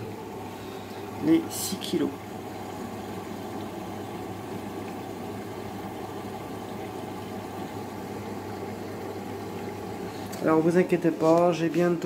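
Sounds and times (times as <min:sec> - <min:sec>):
washing machine motor hum: 0:00.0 - 0:12.0
water swishing in drum: 0:00.0 - 0:12.0.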